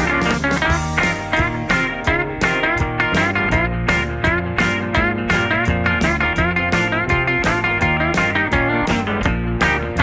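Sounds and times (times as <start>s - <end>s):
rock music with electric guitar: 0.0s - 10.0s.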